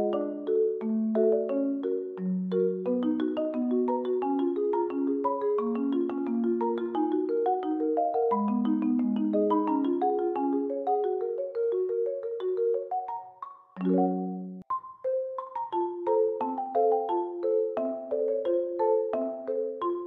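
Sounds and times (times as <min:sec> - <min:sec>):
marimba-like melody: 0:00.0 - 0:20.0.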